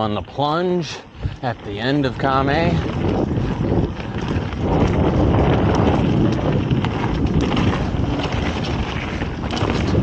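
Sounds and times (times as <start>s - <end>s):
bike rattling over bumps: 0.0s - 10.0s
bike tyres rumbling on dirt: 0.0s - 10.0s
wind buffeting microphone: 0.0s - 10.0s.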